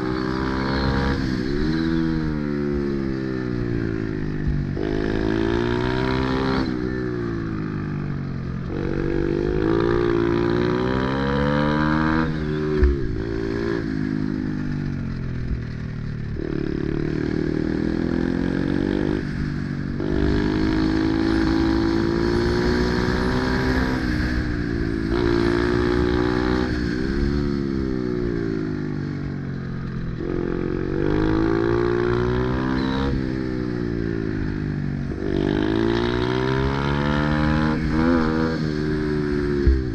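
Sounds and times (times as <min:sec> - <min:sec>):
small motorcycle engine revving: 0:00.0 - 0:07.6, 0:08.6 - 0:29.0, 0:30.1 - 0:39.9.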